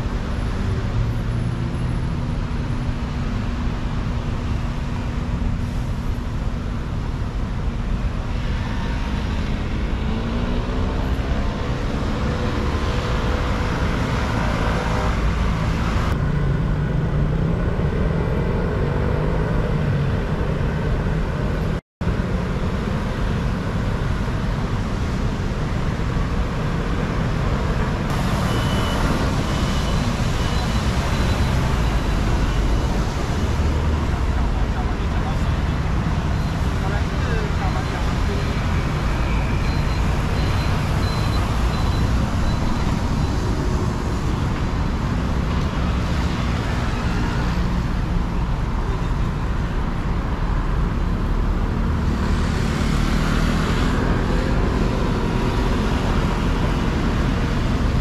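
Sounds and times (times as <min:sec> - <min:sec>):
cars and scooters passing: 0:00.0 - 0:58.0.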